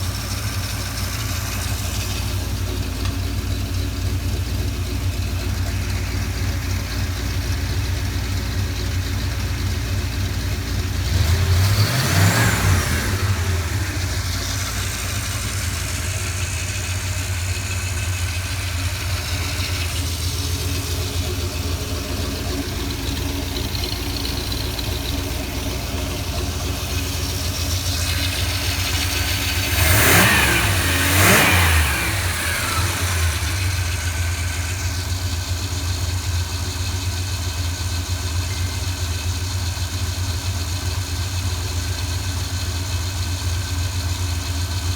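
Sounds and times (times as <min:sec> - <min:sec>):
engine throttle blip: 0:00.0 - 0:37.0
boat engine idling: 0:00.0 - 0:44.9.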